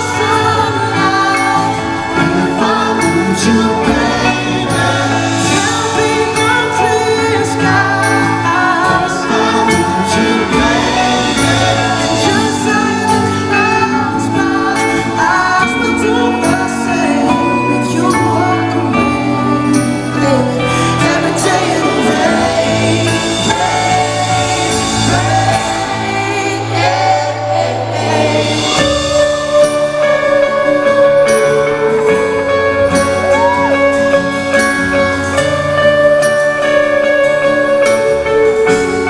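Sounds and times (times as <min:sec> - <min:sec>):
bass line: 0:00.0 - 0:39.0
live band playing soul-pop ballad: 0:00.0 - 0:39.0.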